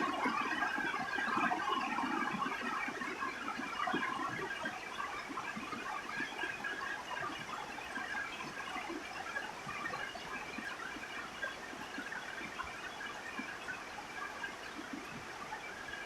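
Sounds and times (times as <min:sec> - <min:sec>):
rain pattering on a roof: 0:00.0 - 0:16.0.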